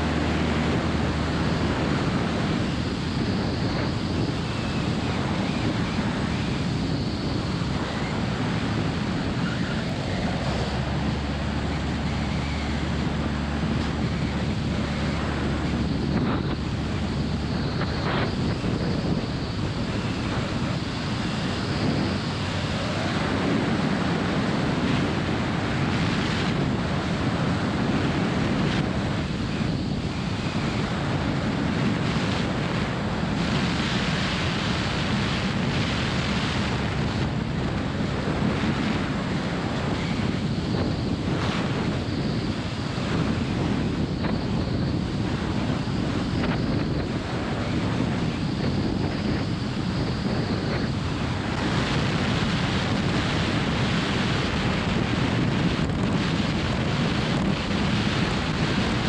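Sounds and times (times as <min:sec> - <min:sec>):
aircraft engine and propeller drone: 0:00.0 - 0:59.0
wind buffeting microphone: 0:00.0 - 0:59.0.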